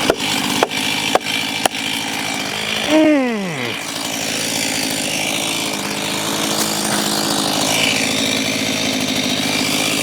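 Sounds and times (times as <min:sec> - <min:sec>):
chainsaw engine idling: 0:00.0 - 0:10.0.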